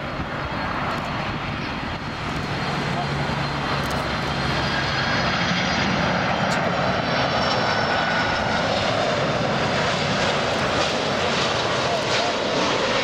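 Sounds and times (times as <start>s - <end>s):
faint high jet whine: 0.0s - 13.0s
jet aircraft roar passing overhead: 0.0s - 13.0s.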